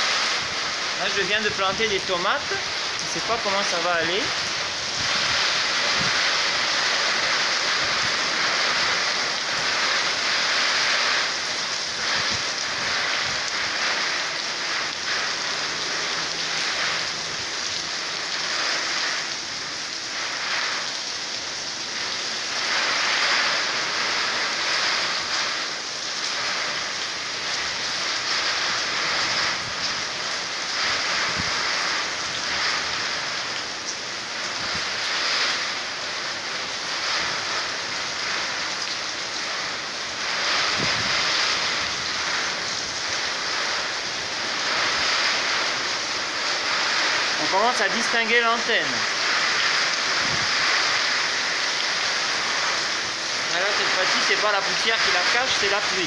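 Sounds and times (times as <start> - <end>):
hard rain hissing: 0.0 - 56.0.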